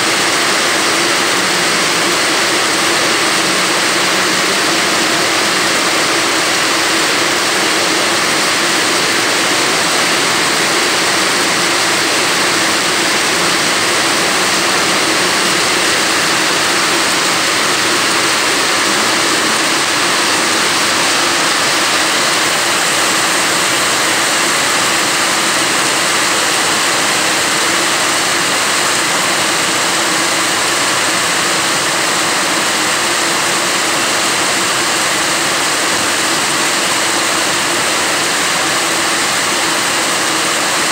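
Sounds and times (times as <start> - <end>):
heavy rain on metal roof: 0.0 - 40.9.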